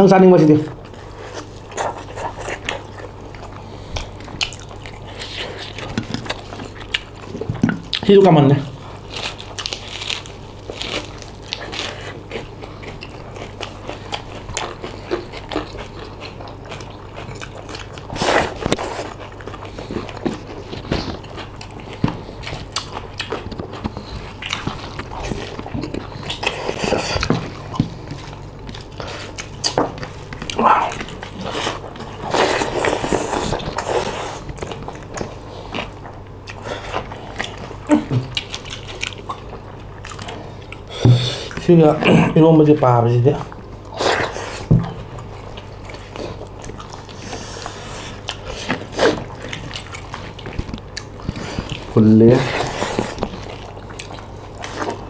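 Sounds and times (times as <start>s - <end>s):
low steady hum: 0.0s - 55.0s
people chewing food: 0.0s - 55.0s.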